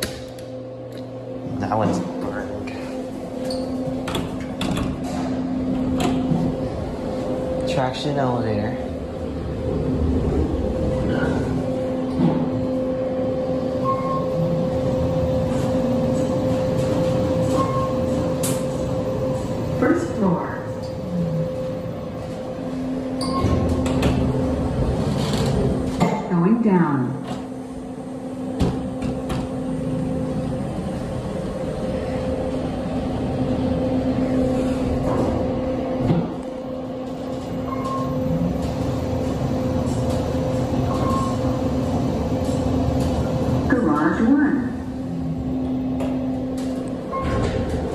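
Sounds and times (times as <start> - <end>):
elevator hum and whine: 0.0 - 47.9.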